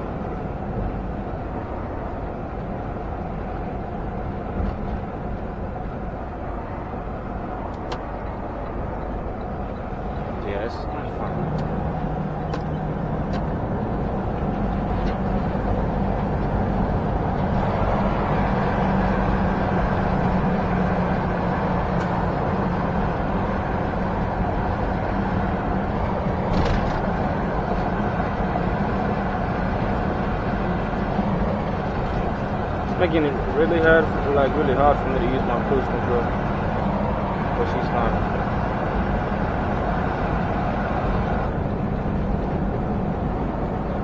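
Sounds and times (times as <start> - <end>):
diesel truck engine hum: 0.0 - 44.0
road and tyre noise: 0.0 - 44.0.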